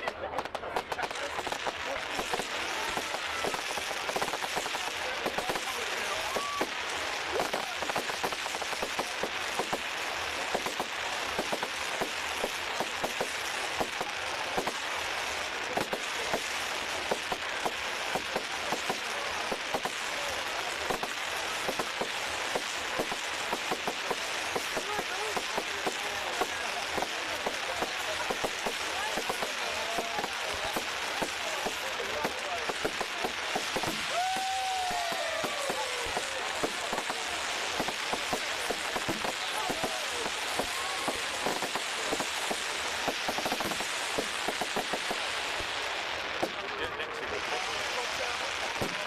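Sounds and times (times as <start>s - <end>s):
fireworks popping and crackling: 0.0s - 49.0s.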